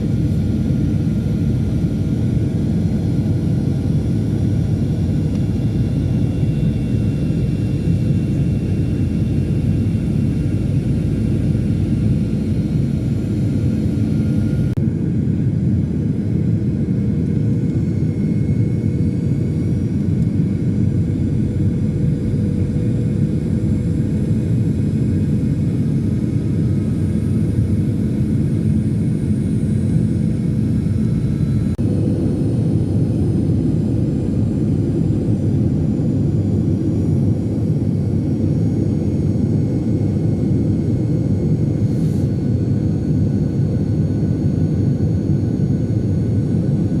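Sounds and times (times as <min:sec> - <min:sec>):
airliner engines deep rumble: 0:00.0 - 0:47.0.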